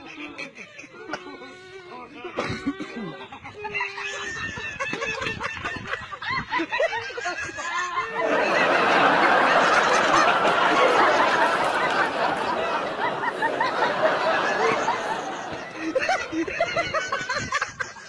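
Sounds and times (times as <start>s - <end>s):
many people laughing: 0.0s - 18.0s
people giggling: 0.0s - 18.0s.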